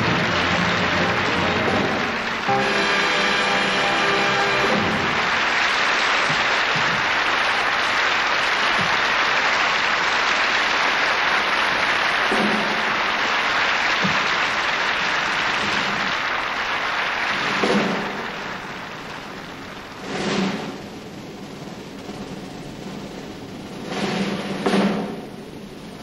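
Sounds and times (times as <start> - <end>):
audience applauding: 0.0 - 22.4
band music: 0.0 - 25.6.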